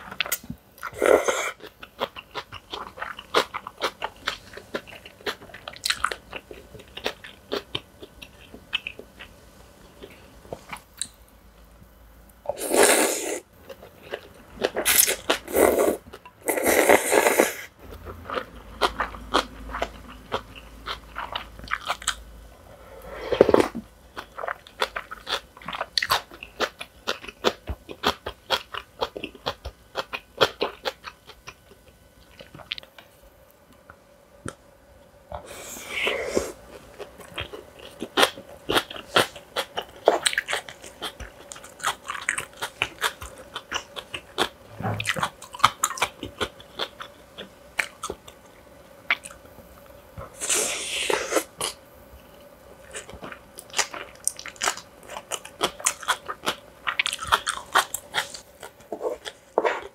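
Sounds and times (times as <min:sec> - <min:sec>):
person chewing and crunching food: 0:00.0 - 0:11.1, 0:12.5 - 0:22.2, 0:23.0 - 0:33.1, 0:35.3 - 0:49.5, 0:50.2 - 0:59.9.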